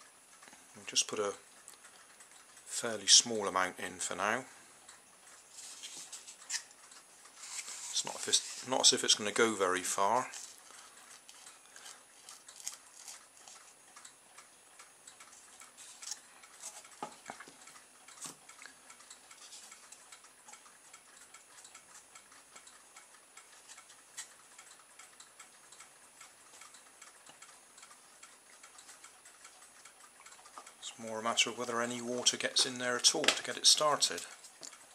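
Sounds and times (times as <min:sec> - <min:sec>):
faint steady ticking: 0:00.0 - 0:34.9.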